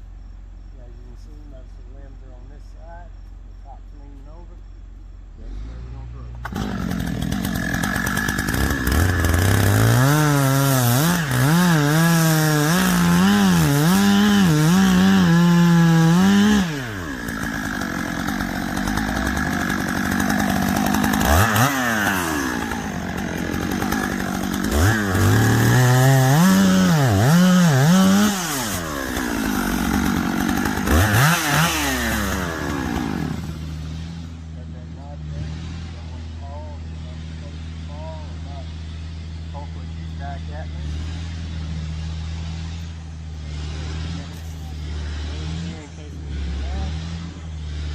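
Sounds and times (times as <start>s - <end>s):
chainsaw revving: 5.3s - 47.9s.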